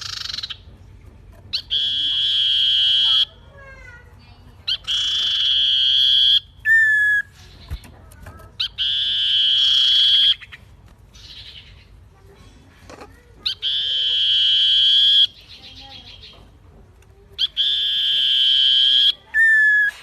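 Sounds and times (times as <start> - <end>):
bird harsh calls: 1.5 - 12.0, 13.4 - 16.4, 17.4 - 20.0.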